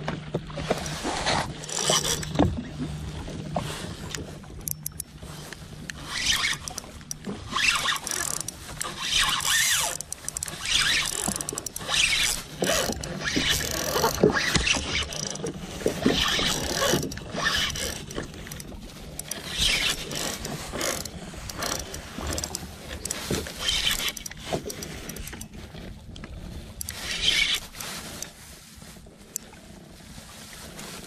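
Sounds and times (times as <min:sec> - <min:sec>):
reel mechanical clicking: 0:00.7 - 0:02.6, 0:03.2 - 0:25.6, 0:26.2 - 0:28.3
fishing line rustling: 0:00.7 - 0:31.0.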